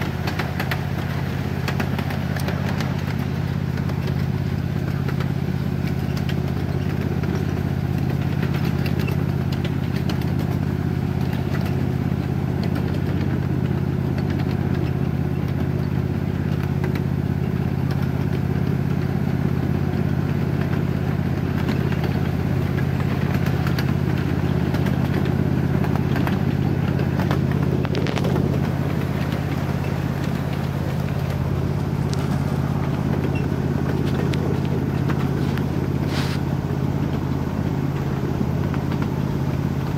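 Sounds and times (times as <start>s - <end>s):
miniature train rolling on track: 0.0s - 39.9s
wheels clattering on rails: 0.0s - 39.9s.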